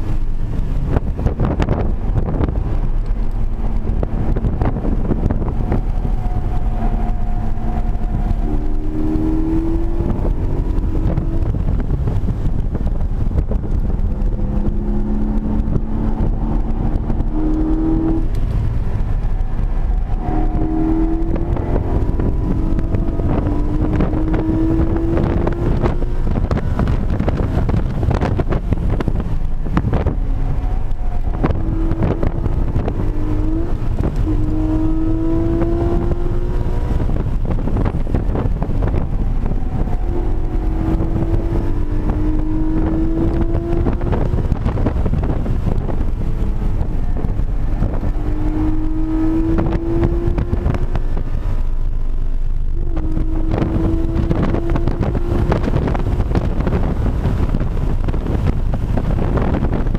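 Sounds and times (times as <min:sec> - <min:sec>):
car engine accelerating: 0:00.0 - 0:59.9
wind and road rumble: 0:00.0 - 0:59.9.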